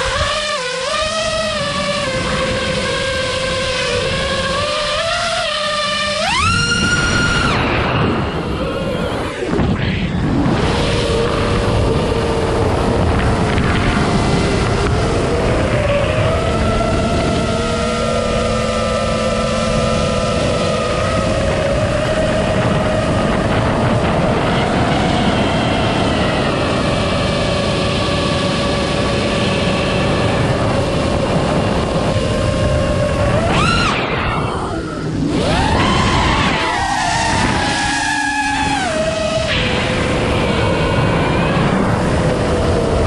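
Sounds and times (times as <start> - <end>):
drone motors whining: 0.0 - 43.0.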